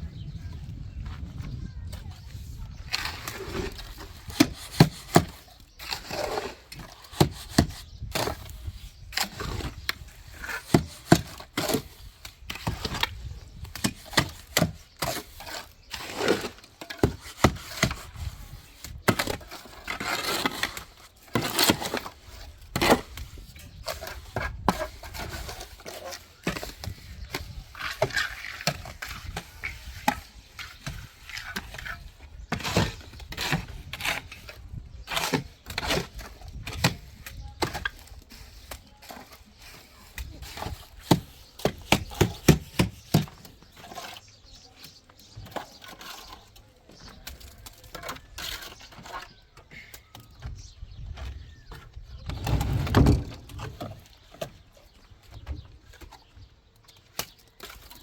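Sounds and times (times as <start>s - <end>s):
knocks and scrapes of building work: 0.2s - 58.0s.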